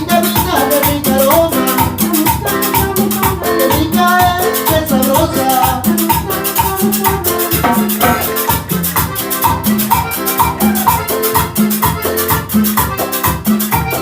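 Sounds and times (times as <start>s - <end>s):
salsa band playing: 0.0s - 14.0s.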